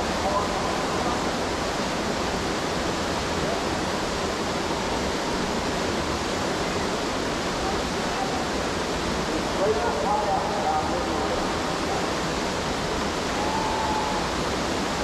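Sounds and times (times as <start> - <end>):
whitewater rapid rushing: 0.0 - 15.0.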